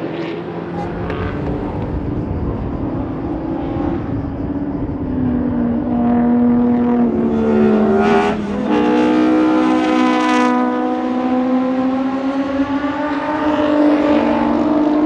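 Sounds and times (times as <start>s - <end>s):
another car engine: 0.0s - 15.0s
race car accelerating past: 0.0s - 15.0s.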